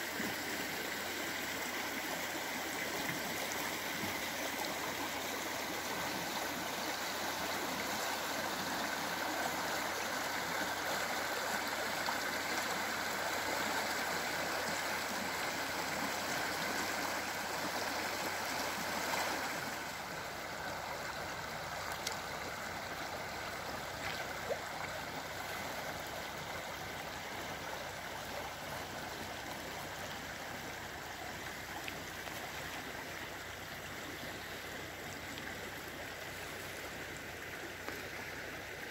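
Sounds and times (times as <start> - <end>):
river water rushing over stones: 0.0 - 38.9.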